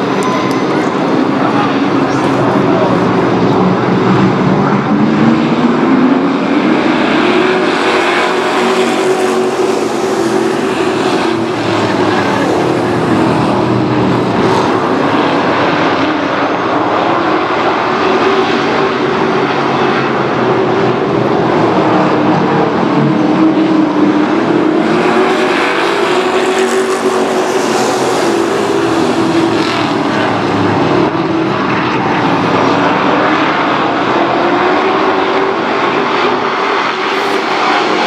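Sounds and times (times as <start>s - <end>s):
race truck engines droning: 0.0s - 38.0s.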